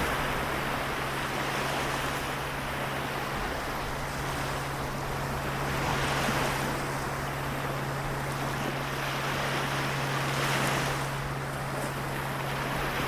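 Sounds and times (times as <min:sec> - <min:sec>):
steady low hum: 0:00.0 - 0:13.0
waves washing in: 0:00.0 - 0:13.0.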